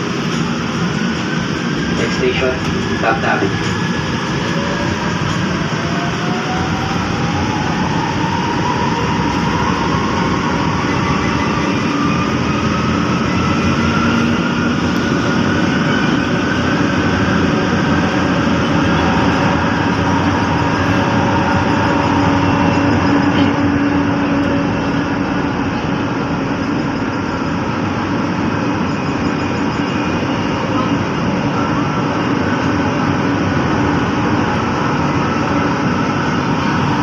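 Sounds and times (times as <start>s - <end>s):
train wheels rumbling on track: 0.0s - 37.0s.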